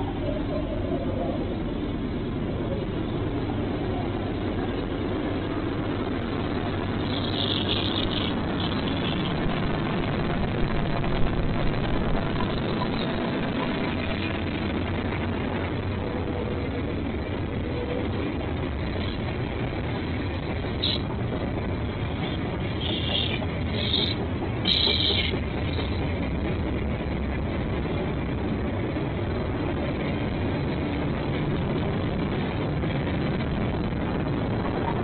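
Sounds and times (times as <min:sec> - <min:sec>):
freight train rumbling: 0:00.0 - 0:35.0.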